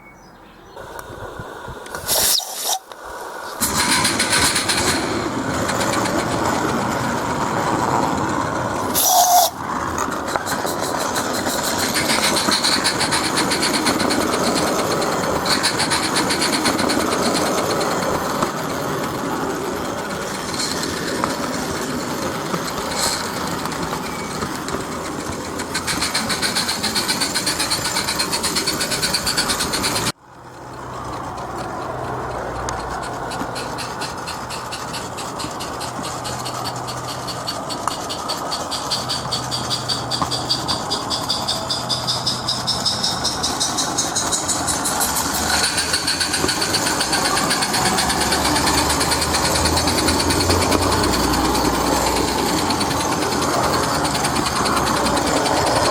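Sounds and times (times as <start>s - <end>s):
model train rattling on track: 0.8s - 55.9s.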